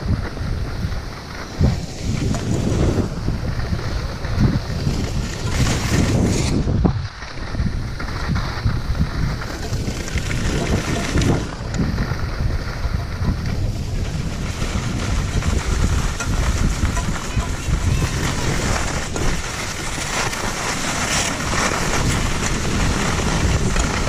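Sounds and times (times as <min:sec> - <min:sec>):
skis sliding over snow: 0:00.0 - 0:24.0
wind rumbling on microphone: 0:00.0 - 0:24.0.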